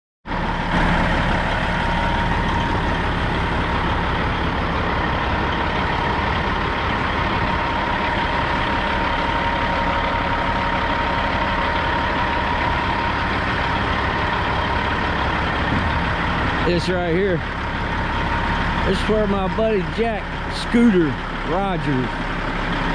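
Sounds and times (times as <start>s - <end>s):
diesel engine idling: 0.3s - 22.9s.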